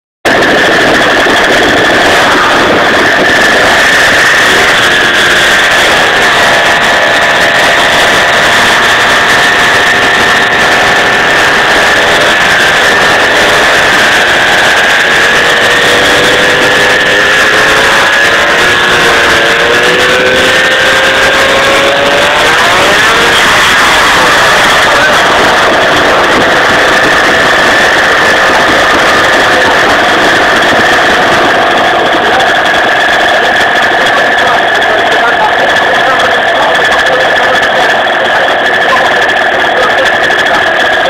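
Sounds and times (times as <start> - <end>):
two-stroke engine running hard: 0.2 - 41.0.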